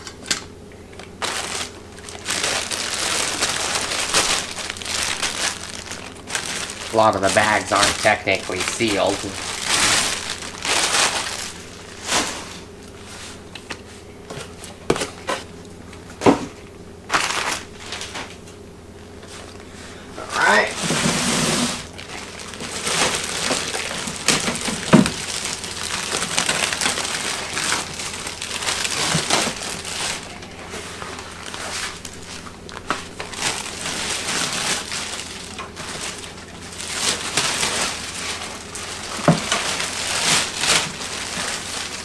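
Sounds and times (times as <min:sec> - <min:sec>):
plastic packaging crinkling: 0:00.0 - 0:42.0.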